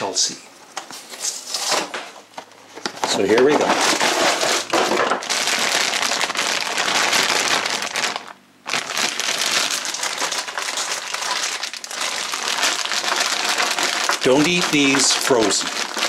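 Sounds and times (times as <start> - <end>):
plastic bag crinkling: 3.0 - 16.0.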